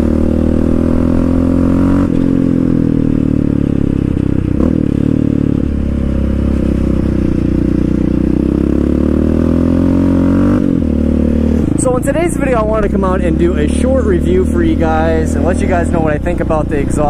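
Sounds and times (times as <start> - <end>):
quad engine exhaust note: 0.0 - 17.0.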